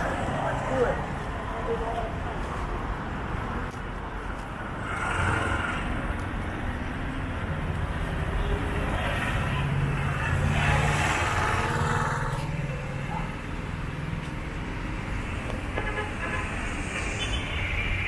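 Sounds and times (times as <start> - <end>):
motor vehicles passing: 0.0 - 18.0.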